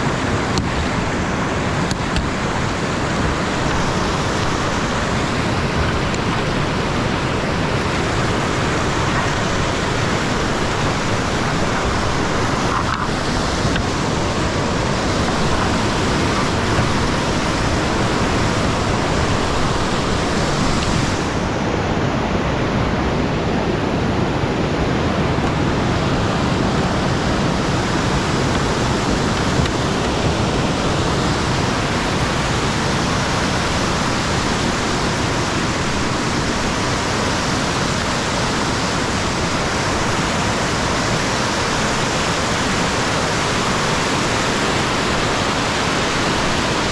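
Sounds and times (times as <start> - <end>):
creek rushing over rapids: 0.0 - 46.9.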